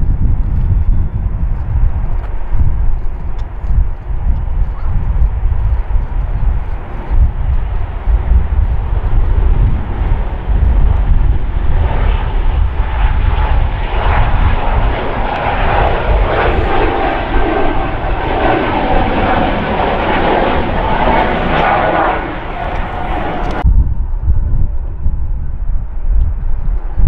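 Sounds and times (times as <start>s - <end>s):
jet engines roaring on take-off: 0.1s - 23.7s.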